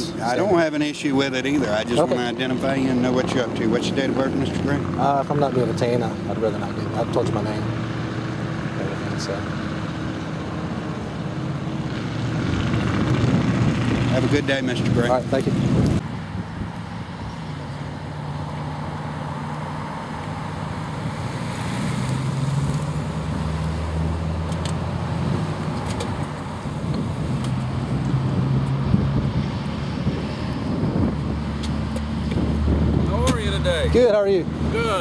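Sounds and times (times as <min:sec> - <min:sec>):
road traffic: 0:00.0 - 0:35.0.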